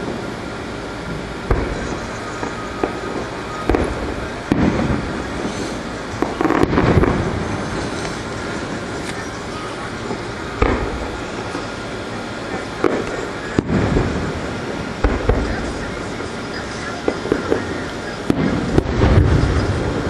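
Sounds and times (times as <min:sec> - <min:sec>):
fireworks shells bursting: 0:00.0 - 0:20.0.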